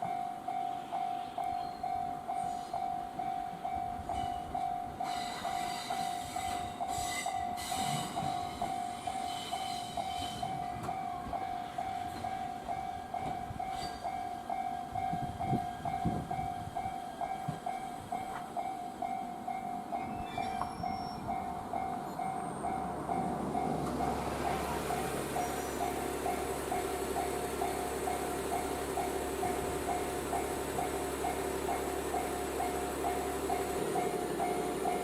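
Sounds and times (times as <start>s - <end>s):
level crossing alarm clanging: 0.0s - 35.0s
train rumbling: 0.0s - 35.0s.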